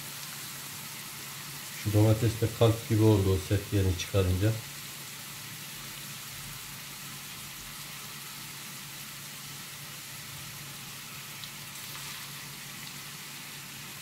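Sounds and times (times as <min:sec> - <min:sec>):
meat sizzling in a frying pan: 0:00.0 - 0:14.0.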